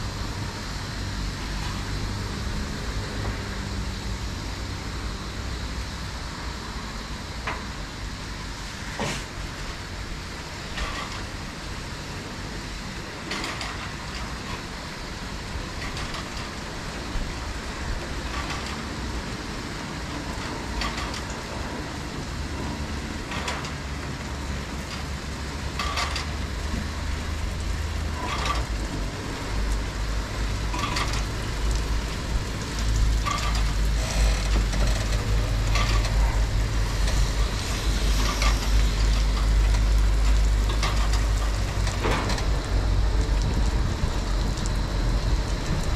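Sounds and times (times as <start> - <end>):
car wash machinery running: 0.0 - 45.9.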